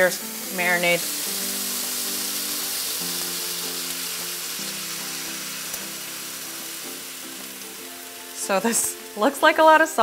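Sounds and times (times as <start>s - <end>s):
chicken sizzling in a skillet: 0.0s - 10.0s
soft background music: 0.0s - 10.0s.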